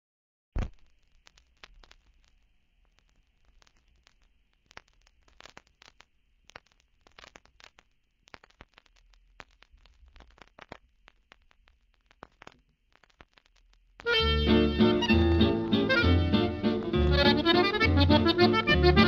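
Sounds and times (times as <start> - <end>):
faint crackling clicks: 0.5 - 14.2, 14.8 - 18.7.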